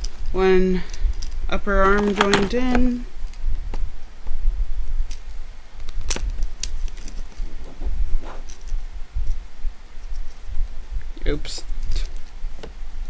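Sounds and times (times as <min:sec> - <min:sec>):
handling rumble: 0:00.0 - 0:13.0.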